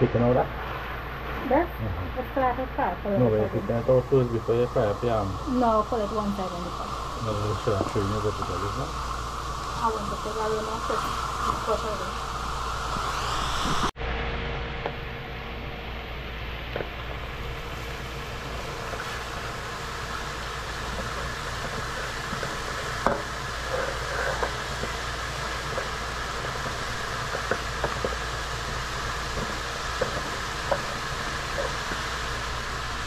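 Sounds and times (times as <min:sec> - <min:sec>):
shrimp sizzling in a pot: 0:00.0 - 0:14.0, 0:14.9 - 0:33.0.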